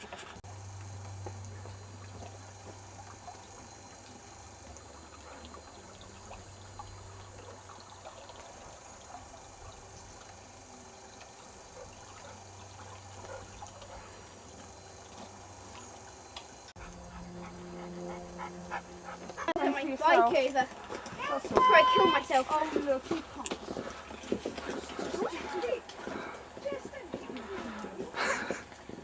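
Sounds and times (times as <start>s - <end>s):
water trickling: 0.5s - 29.0s.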